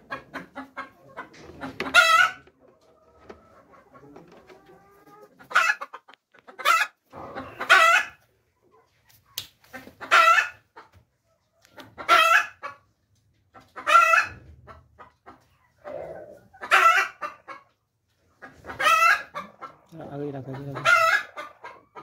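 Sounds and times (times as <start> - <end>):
chickens calling loudly: 0.0 - 22.0
chickens clucking softly: 0.0 - 22.0.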